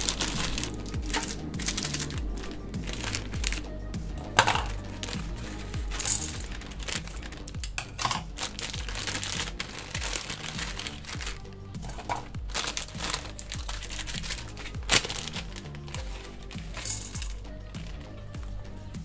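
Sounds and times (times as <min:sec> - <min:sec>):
plastic packet crinkling: 0:00.0 - 0:03.7, 0:04.3 - 0:17.4
background music: 0:00.0 - 0:19.0.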